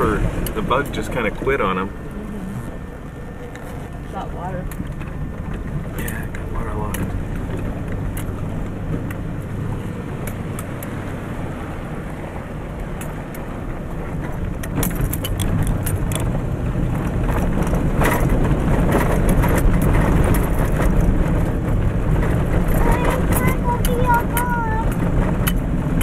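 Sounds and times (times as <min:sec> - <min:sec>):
rattles and knocks over bumps: 0:00.0 - 0:11.1, 0:12.8 - 0:26.0
vehicle engine running: 0:00.0 - 0:26.0.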